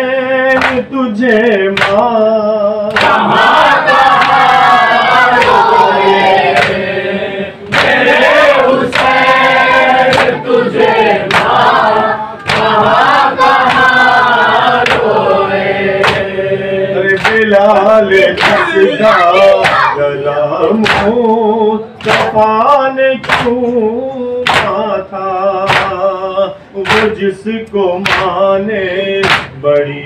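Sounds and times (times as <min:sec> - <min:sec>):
group chanting a lament: 0:00.0 - 0:30.0
sharp rhythmic beats: 0:00.4 - 0:29.7.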